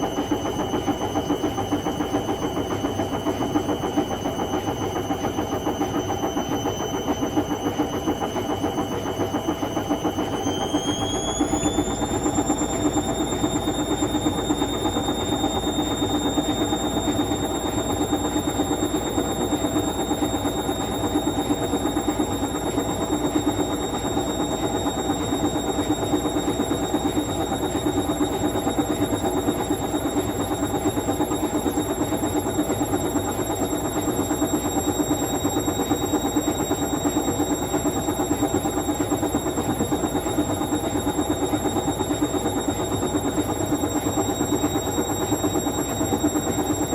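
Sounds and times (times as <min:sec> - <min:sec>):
washing machine motor whine: 0:00.0 - 0:46.9.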